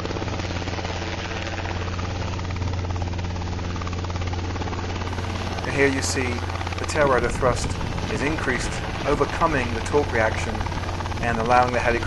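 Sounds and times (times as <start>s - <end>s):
helicopter engine drone: 0.0s - 12.0s
helicopter rotors chopping: 0.0s - 12.0s.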